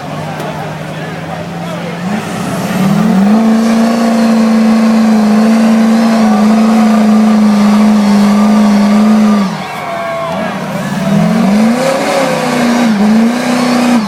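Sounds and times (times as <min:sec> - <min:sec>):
truck engine revving under load: 0:00.0 - 0:14.0.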